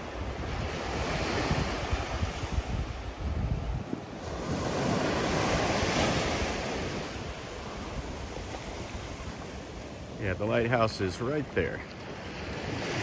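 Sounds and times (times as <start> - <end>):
wind buffeting microphone: 0.0 - 10.6
surf washing onto beach: 0.0 - 13.0.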